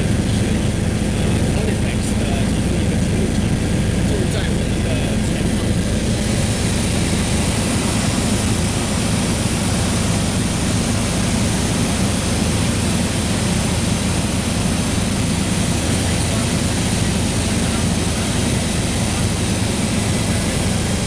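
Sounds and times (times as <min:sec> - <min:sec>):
helicopter cabin noise: 0:00.0 - 0:21.0.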